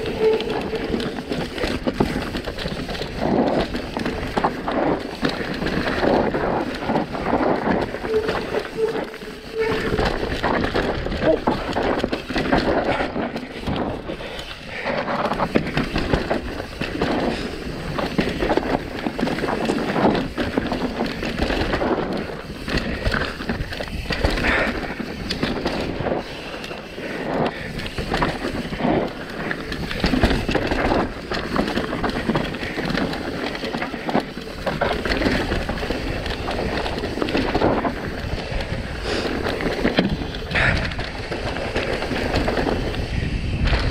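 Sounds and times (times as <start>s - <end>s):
bike clattering over bumps: 0.0s - 43.9s
bike tyres rolling over dirt: 0.0s - 43.9s.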